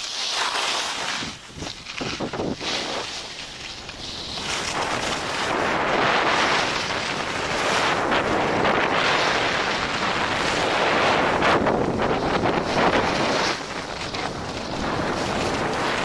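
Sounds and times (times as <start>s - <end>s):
skis hissing over packed snow: 0.0s - 16.0s
wind buffeting microphone: 1.2s - 16.0s.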